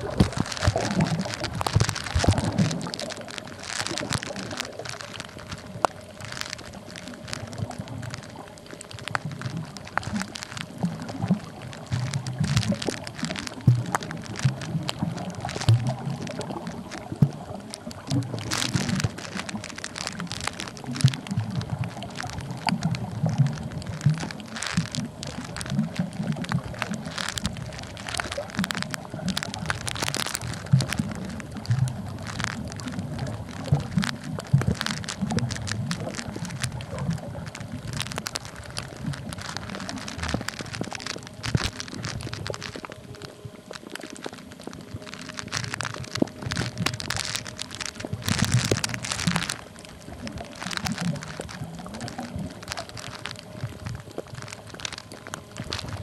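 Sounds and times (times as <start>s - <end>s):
low water rumble: 0.0s - 56.0s
underwater clicking and crackling: 0.0s - 56.0s.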